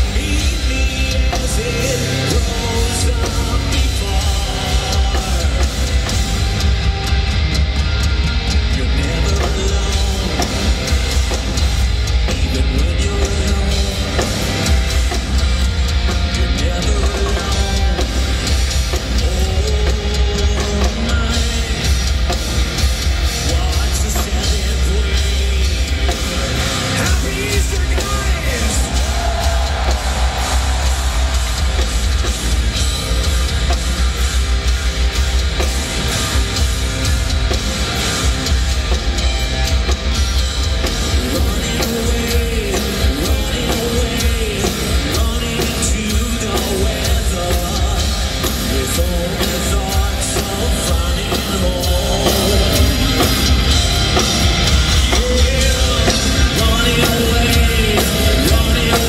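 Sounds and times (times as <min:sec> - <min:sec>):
singer's voice: 0:00.0 - 0:07.1, 0:08.4 - 0:39.9, 0:40.6 - 0:59.0
heavy metal band playing live: 0:00.0 - 0:59.0.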